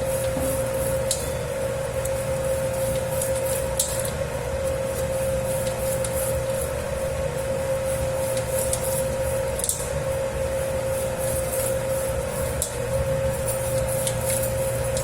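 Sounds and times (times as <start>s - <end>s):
dough kneading machine humming: 0.0s - 15.0s.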